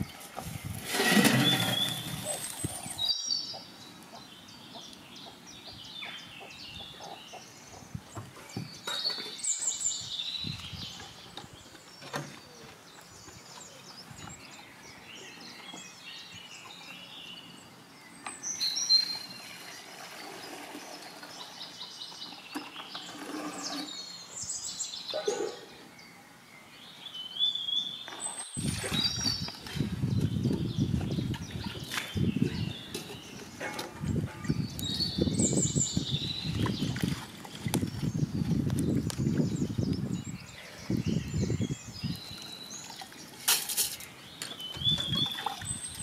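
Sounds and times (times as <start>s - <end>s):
small birds chirping: 1.3s - 46.0s.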